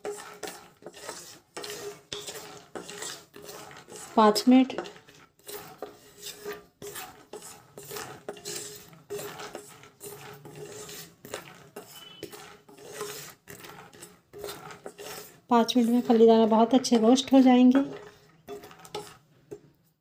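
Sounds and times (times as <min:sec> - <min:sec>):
spatula scraping pan: 0:00.0 - 0:19.8.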